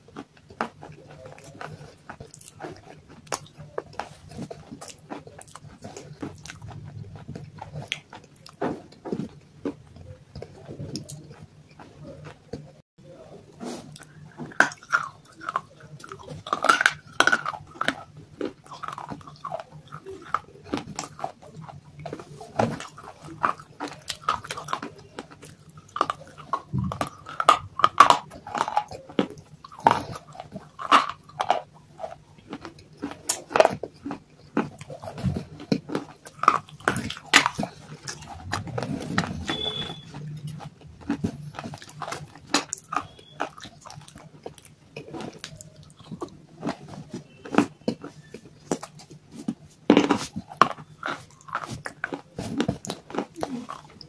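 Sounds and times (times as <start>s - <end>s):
chewing crunchy clay: 0.0s - 54.0s.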